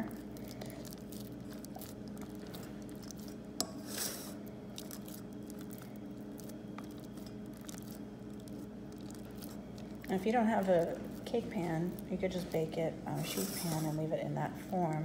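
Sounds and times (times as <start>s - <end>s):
dough squishing in pan: 0.0s - 15.0s
steady low hum: 0.0s - 15.0s.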